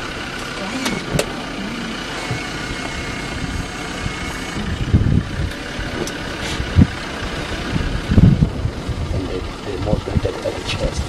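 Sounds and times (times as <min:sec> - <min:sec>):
truck engine idling: 0:00.0 - 0:11.0
dull low thumps: 0:00.9 - 0:11.0.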